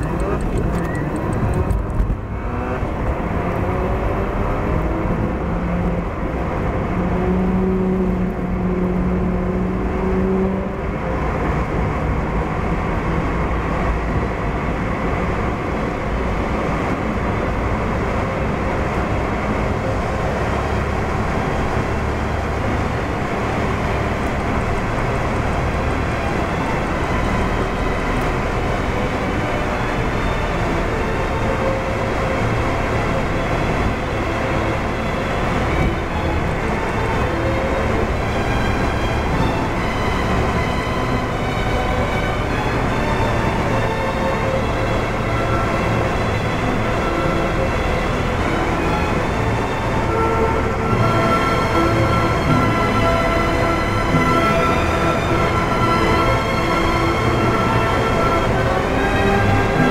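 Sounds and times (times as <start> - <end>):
car engine hum: 0.0 - 59.9
tyre-on-road noise: 0.0 - 59.9.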